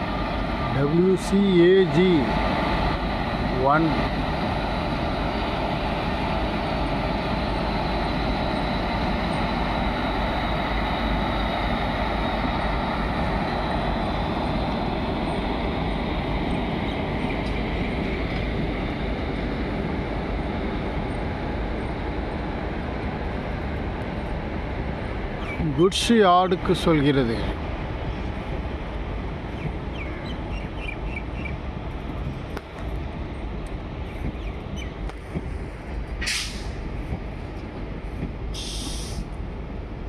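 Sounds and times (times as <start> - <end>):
train wagons rolling on rails: 0.0 - 40.0.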